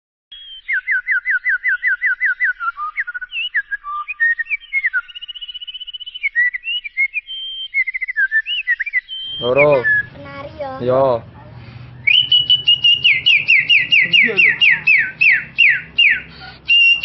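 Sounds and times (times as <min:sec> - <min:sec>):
boy whistling birdsong: 0:00.3 - 0:10.3, 0:11.8 - 0:17.0.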